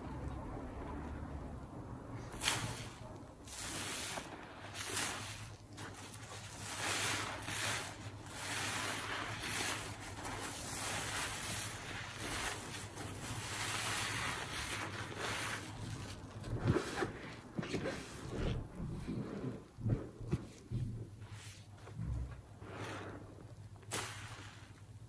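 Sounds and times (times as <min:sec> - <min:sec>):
sponge squishing in suds: 0:02.1 - 0:25.0.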